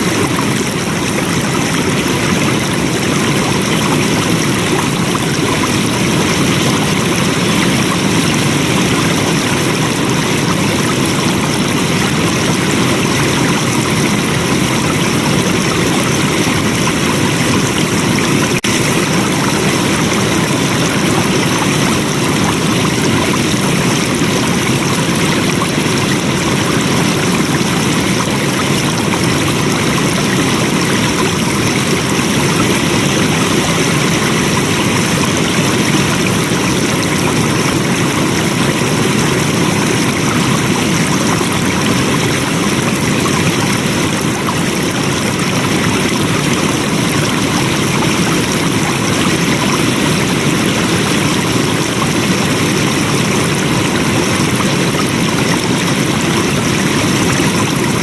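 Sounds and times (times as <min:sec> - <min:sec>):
water rushing steadily: 0:00.0 - 0:58.0.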